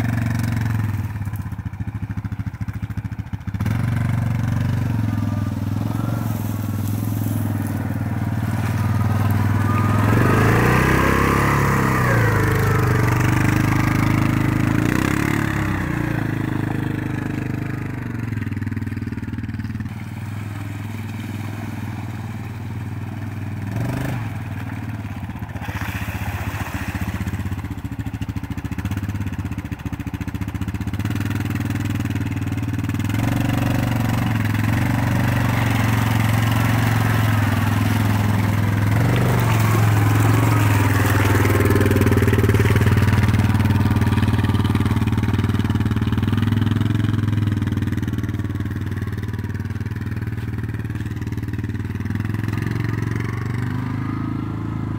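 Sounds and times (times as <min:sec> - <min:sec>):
atv engine running: 0:00.0 - 0:54.9
vehicle churning through mud: 0:00.0 - 0:54.9.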